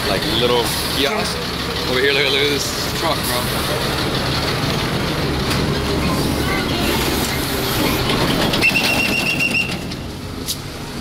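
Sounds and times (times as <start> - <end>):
street traffic: 0.0 - 11.0
truck engine rumbling: 0.0 - 11.0.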